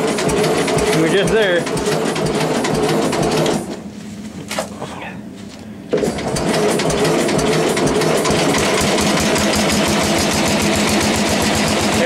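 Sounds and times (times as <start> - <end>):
small petrol engine starting: 0.0 - 3.8, 5.9 - 12.0.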